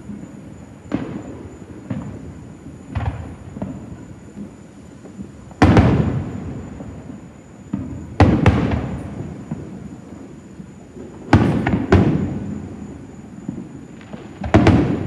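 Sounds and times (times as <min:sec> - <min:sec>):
distant fireworks booming: 0:00.0 - 0:15.0.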